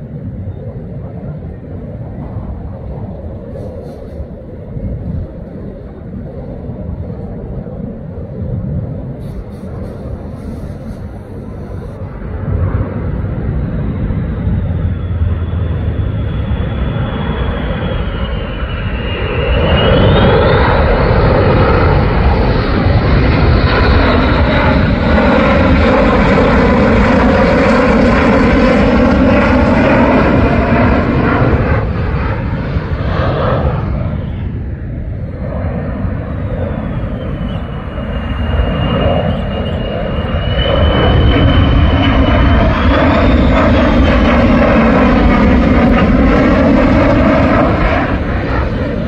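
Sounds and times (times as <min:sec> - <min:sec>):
jet engines flying past: 0:00.0 - 0:49.0.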